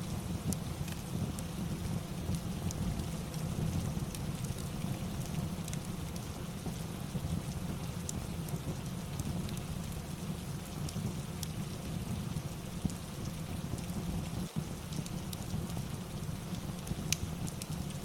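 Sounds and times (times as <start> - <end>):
fireplace crackles: 0.0 - 18.0
steady rain: 0.0 - 18.0.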